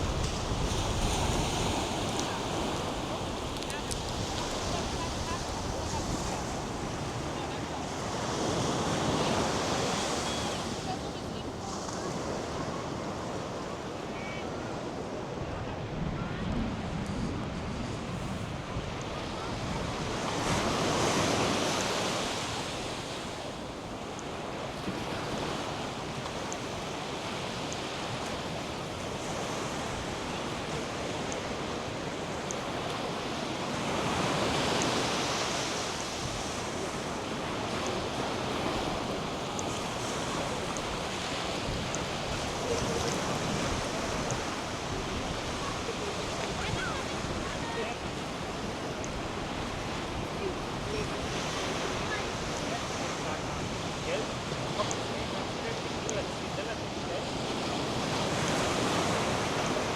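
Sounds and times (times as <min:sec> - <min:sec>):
wind buffeting microphone: 0:00.0 - 0:13.7, 0:15.1 - 0:31.4, 0:32.2 - 0:55.4
surf washing onto sandy beach: 0:00.0 - 0:59.9
waves breaking: 0:00.0 - 0:59.9.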